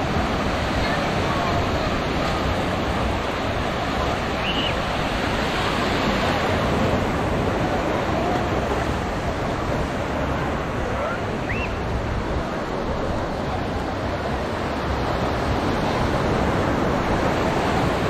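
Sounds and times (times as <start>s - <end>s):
waves breaking on sandy shore: 0.0s - 18.0s.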